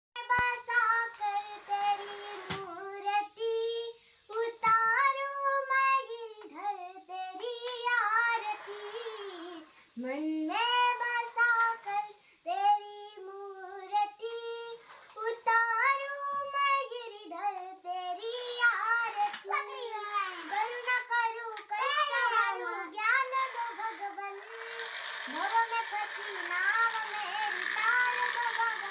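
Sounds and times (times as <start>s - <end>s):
girl singing devotional song: 0.2s - 28.9s.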